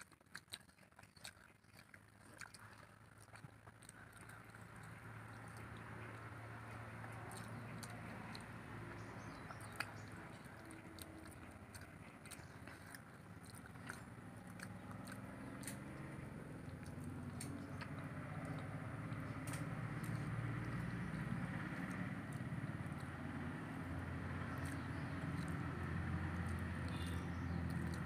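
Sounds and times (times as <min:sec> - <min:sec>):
chewing: 0:00.0 - 0:28.0
fingers squishing rice: 0:00.0 - 0:28.0
wet mouth clicks: 0:00.0 - 0:28.0
steady low hum: 0:03.3 - 0:28.0.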